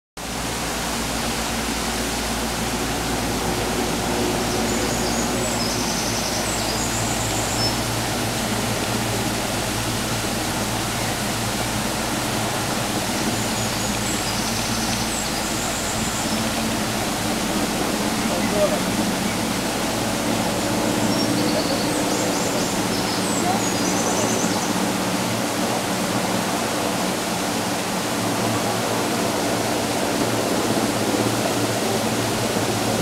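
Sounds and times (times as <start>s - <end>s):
small waterfall rushing: 0.2s - 33.0s.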